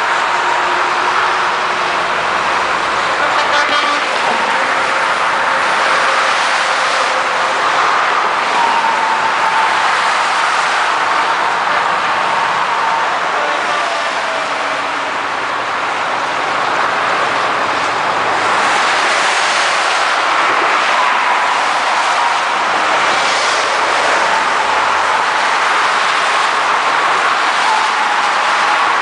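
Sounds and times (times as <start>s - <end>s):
vehicles driving past: 0.0s - 29.0s.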